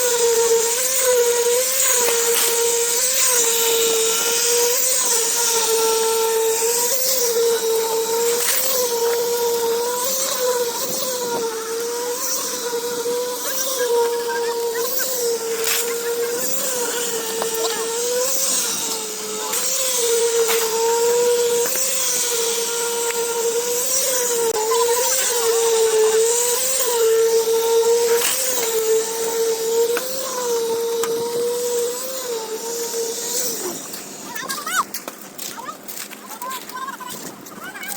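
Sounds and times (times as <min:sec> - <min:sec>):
machine motor humming: 0:00.0 - 0:35.5.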